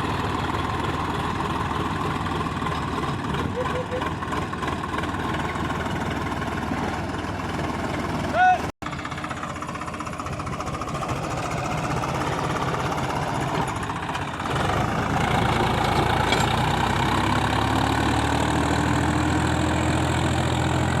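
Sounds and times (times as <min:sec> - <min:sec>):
tractor diesel engine knocking: 0:00.0 - 0:17.6.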